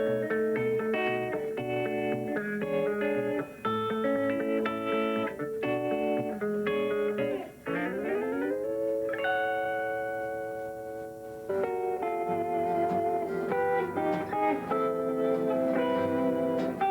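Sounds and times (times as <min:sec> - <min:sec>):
guitar thumbpicking: 0:00.0 - 0:16.9.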